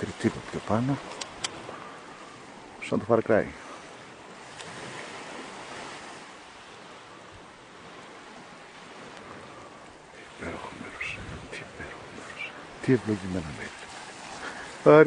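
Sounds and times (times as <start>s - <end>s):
surf washing on sandy beach: 0.0s - 15.0s.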